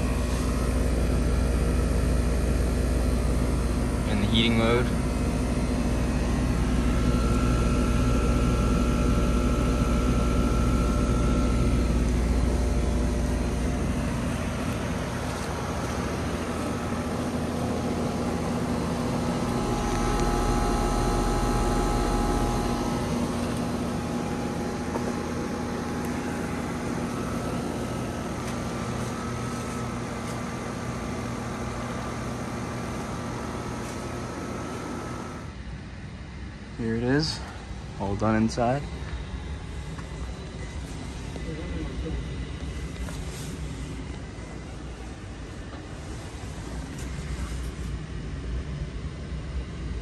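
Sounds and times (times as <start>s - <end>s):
heat pump humming: 0.0s - 50.0s.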